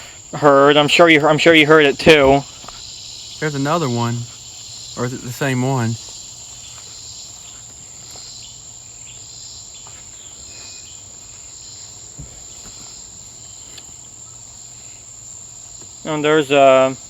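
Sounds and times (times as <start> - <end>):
cicadas buzzing: 0.0 - 17.0
crickets chirping: 0.0 - 17.0.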